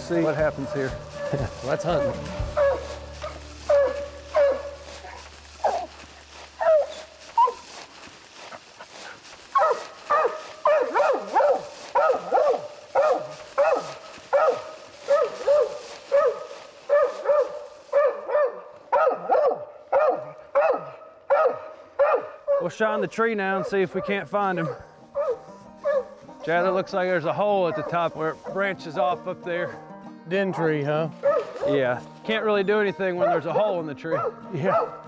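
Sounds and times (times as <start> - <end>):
hound barking: 0.3 - 7.8, 9.5 - 22.8, 23.4 - 26.2, 27.3 - 29.0, 30.4 - 31.8, 33.1 - 35.0.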